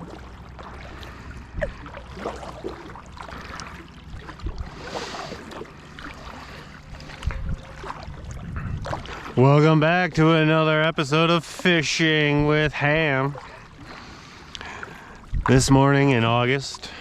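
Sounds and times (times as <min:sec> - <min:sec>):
low steady hum: 0:00.0 - 0:17.0
water lapping around a boat: 0:00.0 - 0:17.0.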